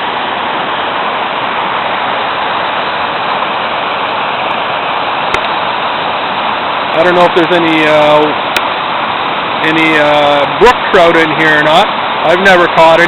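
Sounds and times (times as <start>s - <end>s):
waterfall and creek rushing: 0.0s - 13.0s.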